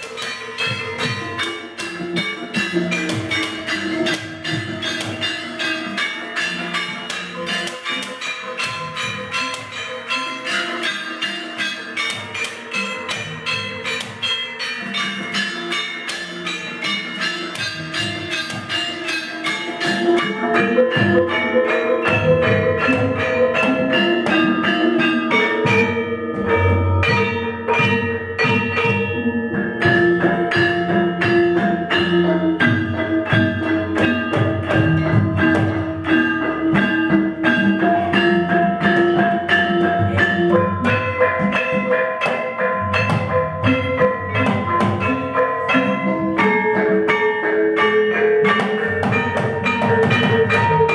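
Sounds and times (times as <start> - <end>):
hand-beaten drums: 0.0 - 50.9
metal-keyed gamelan melody: 0.0 - 50.9
ringing gongs: 0.0 - 50.9.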